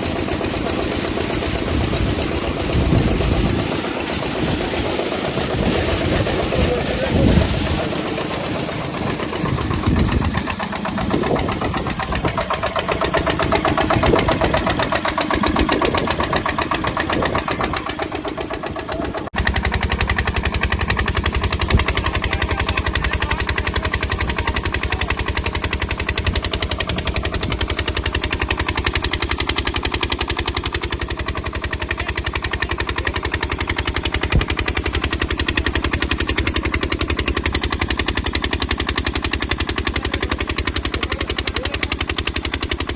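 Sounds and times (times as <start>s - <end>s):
diesel water pump engine running: 0.0s - 42.9s.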